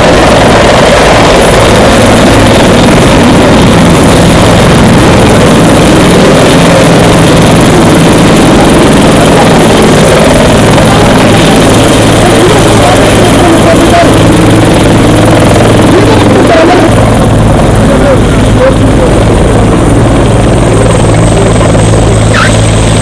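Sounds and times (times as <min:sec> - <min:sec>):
helicopter rotor and engine: 0:00.0 - 0:23.0.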